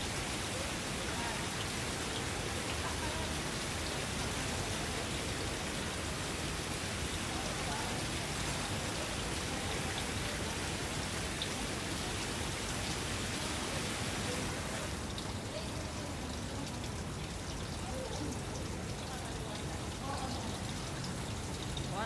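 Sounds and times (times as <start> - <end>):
hiss of falling water: 0.0 - 22.0.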